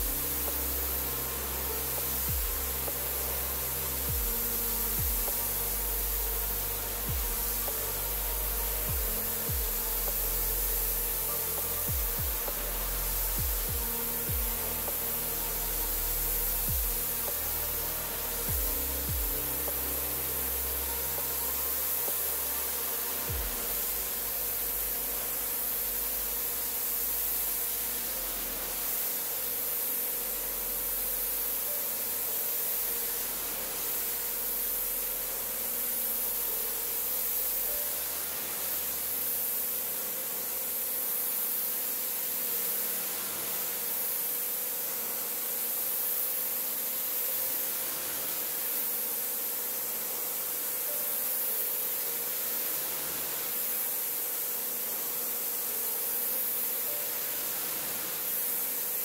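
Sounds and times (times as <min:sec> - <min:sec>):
faint steady hum: 0:00.0 - 0:59.0
pressure washer spraying: 0:00.0 - 0:59.0.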